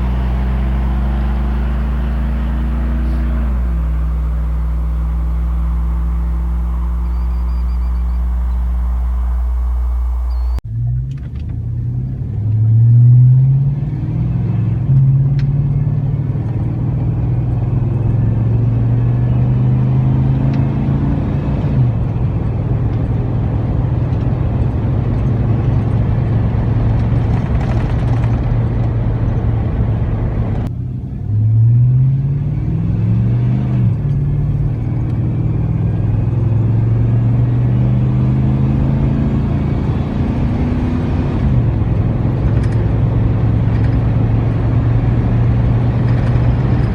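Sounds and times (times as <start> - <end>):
truck exhaust accelerating: 0.0 - 46.9.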